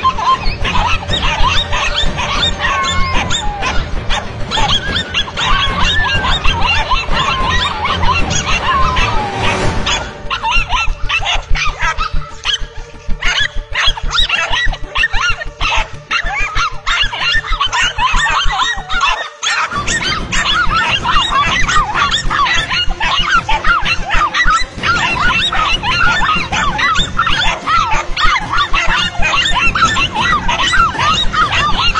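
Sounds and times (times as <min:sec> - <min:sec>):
dogs barking and yipping: 0:00.0 - 0:31.9.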